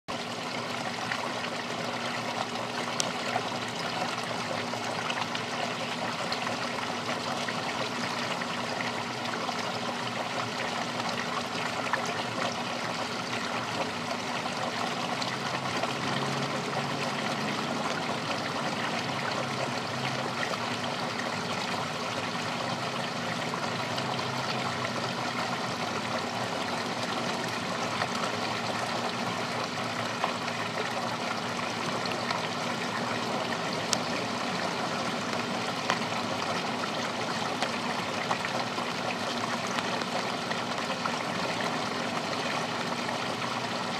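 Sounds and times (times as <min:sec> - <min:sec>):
waterfall splashing into pond: 0:00.1 - 0:43.9.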